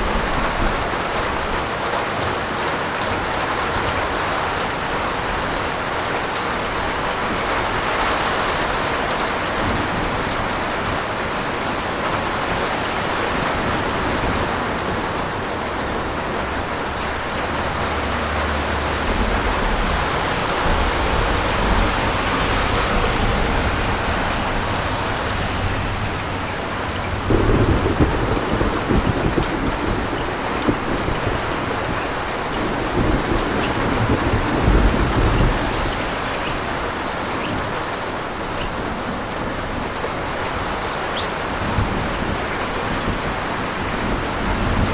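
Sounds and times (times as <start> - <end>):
crackling thunderclap: 0.0 - 44.9
steady rain falling: 0.0 - 44.9
low rolling thunder: 5.0 - 44.9.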